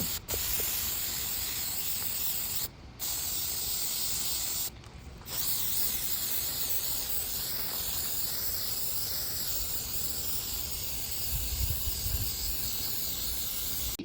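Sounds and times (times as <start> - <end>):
spray hissing: 0.0 - 4.7, 5.3 - 14.0.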